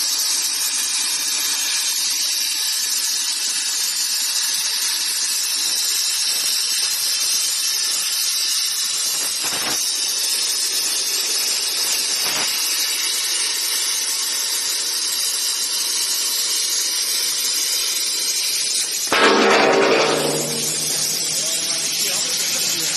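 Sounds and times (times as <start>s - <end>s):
plasma torch hissing: 0.1s - 22.9s.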